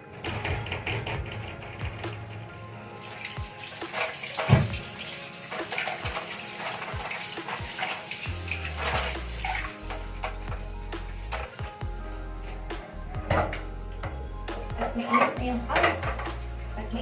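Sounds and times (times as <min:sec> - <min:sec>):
water running from a tap: 0:00.4 - 0:17.0.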